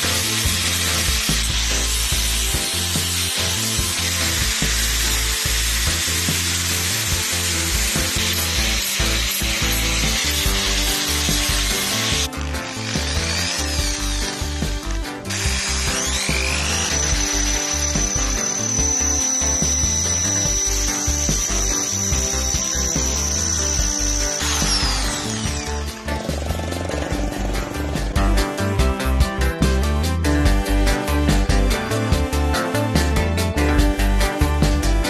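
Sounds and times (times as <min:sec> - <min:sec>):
angle grinder grinding steel: 0:00.0 - 0:29.6
background music: 0:00.0 - 0:35.0.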